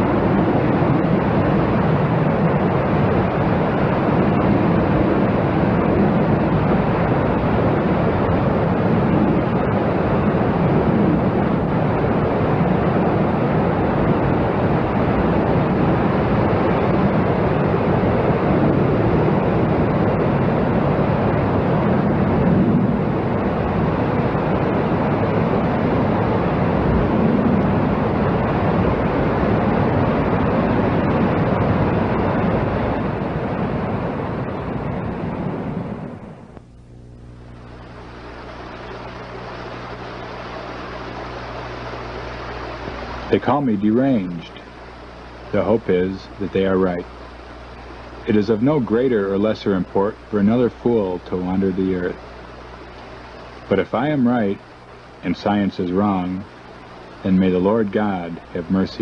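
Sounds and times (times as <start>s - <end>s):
ocean surf washing in: 0.0s - 59.0s.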